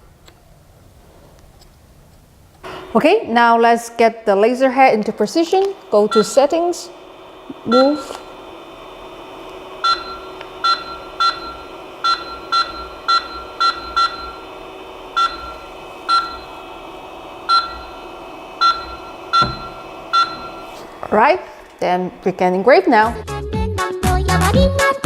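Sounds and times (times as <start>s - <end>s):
machine steady hum: 0.0s - 23.5s.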